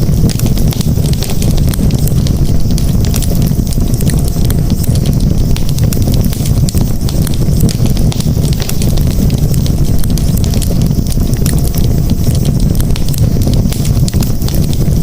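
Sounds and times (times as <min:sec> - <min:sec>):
burning wood crackling and popping: 0:00.0 - 0:15.0
flames rumbling: 0:00.0 - 0:15.0.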